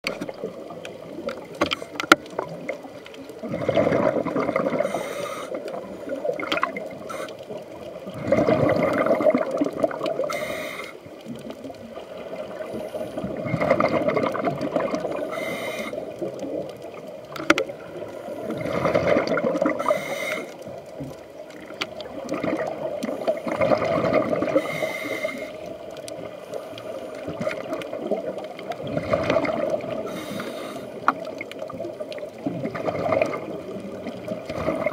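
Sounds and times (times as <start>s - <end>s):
exhaled bubbles gurgling underwater: 0.0s - 34.9s
small clicks and crackles: 0.0s - 34.9s.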